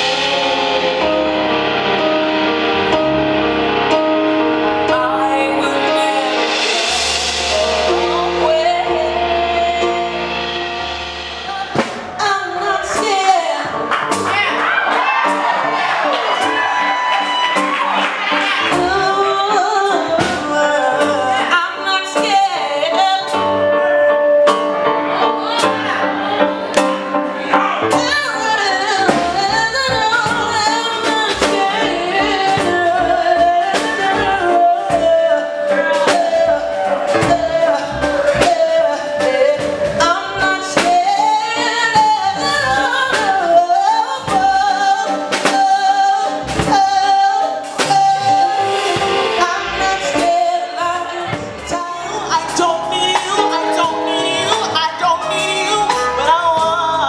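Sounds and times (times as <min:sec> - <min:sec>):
woman singing: 0:00.0 - 0:02.4, 0:04.0 - 0:14.6, 0:16.4 - 0:26.7, 0:27.8 - 0:57.0
instrumental backing with drums: 0:00.0 - 0:57.0.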